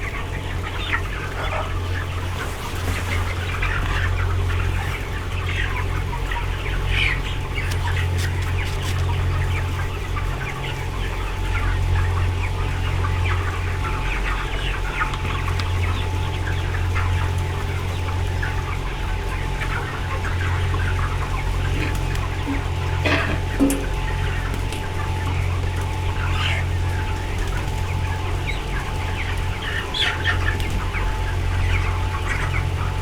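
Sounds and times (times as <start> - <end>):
chickens clucking and cheeping: 0.0 - 33.0
ventilation fans humming: 0.0 - 33.0.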